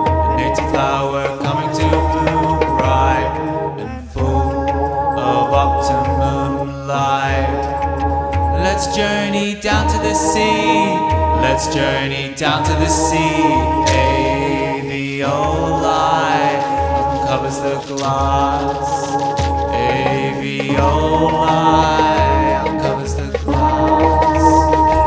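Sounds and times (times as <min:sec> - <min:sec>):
chant-like vocals: 0:00.0 - 0:25.0
pulsing low bass: 0:00.0 - 0:25.0
sustained layered tones: 0:00.0 - 0:25.0.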